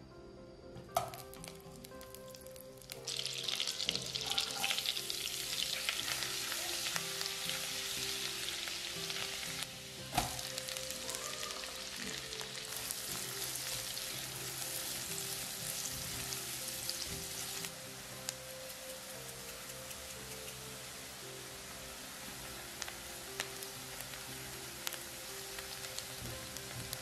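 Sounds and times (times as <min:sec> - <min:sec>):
food sizzling in a wok: 0:01.0 - 0:27.0.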